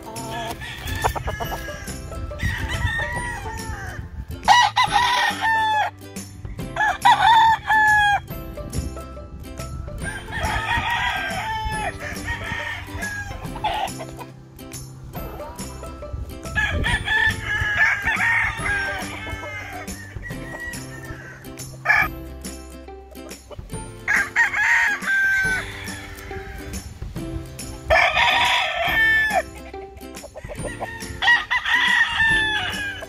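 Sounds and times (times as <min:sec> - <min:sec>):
roosters crowing: 0:00.0 - 0:08.5, 0:10.0 - 0:14.3, 0:16.4 - 0:22.3, 0:23.9 - 0:33.0.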